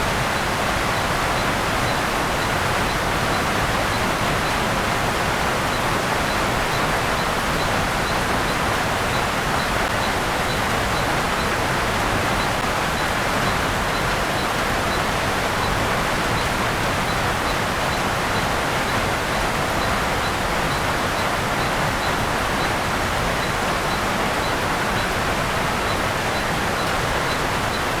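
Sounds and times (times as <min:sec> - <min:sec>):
rain falling on vegetation: 0:00.0 - 0:28.0.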